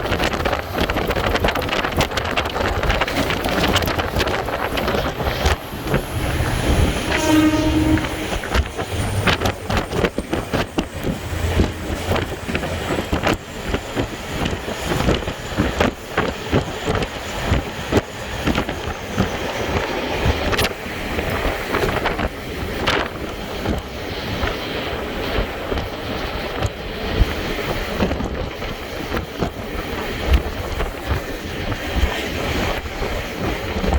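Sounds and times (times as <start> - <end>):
clicks and knocks of train: 0.0 - 33.9
train wheels rumbling on track: 0.0 - 33.9
wind buffeting microphone: 0.0 - 33.9.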